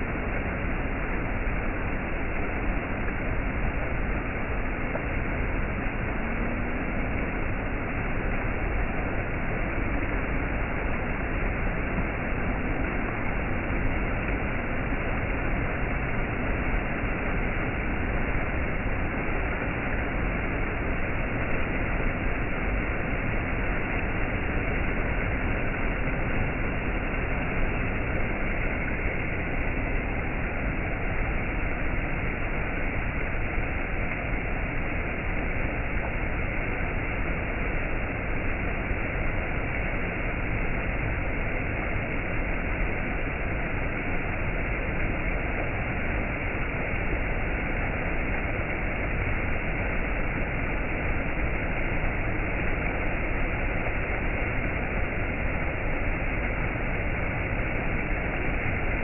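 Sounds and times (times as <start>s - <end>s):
waterfall rushing water roar: 0.0s - 59.0s.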